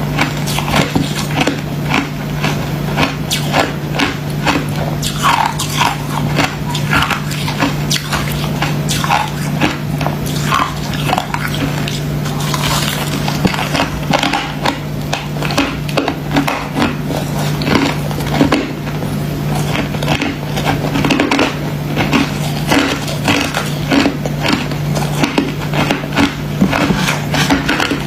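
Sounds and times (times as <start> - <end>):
ice being crunched and chewed: 0.0 - 28.0
steady low hum: 0.0 - 28.0.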